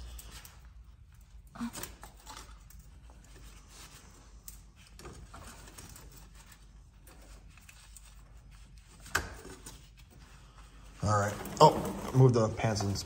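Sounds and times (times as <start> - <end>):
gloved hands clicking and scraping: 0.0 - 12.8.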